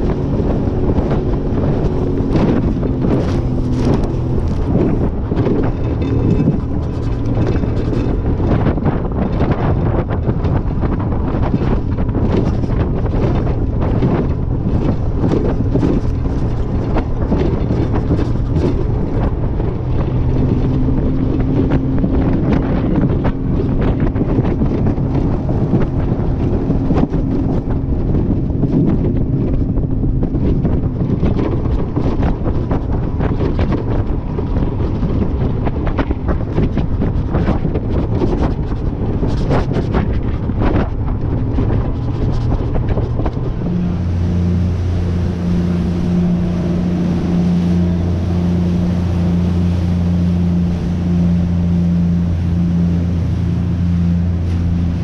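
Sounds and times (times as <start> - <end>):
outboard motor running: 0.0 - 55.0
wind buffeting microphone: 0.0 - 55.0.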